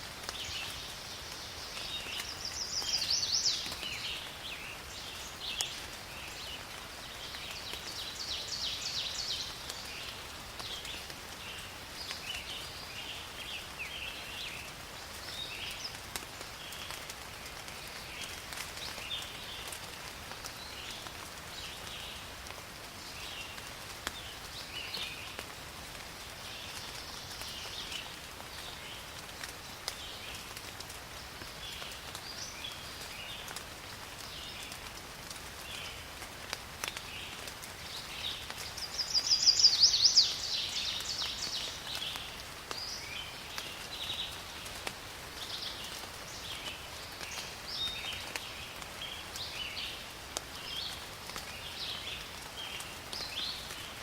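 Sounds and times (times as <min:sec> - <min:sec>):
light rain in forest: 0:00.0 - 0:54.0.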